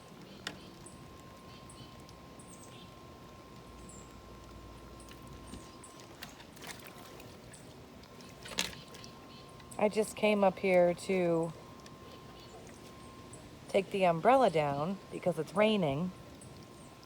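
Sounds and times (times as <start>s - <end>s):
faint steady tone: 0.0s - 17.0s.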